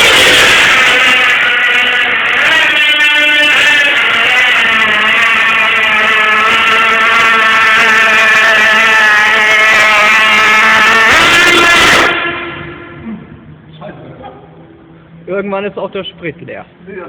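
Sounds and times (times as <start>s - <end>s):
small engine loud buzz: 0.0s - 13.7s.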